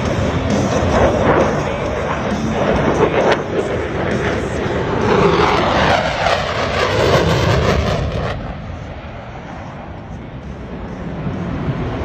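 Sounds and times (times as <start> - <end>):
jet passing low and fast: 0.0 - 12.0.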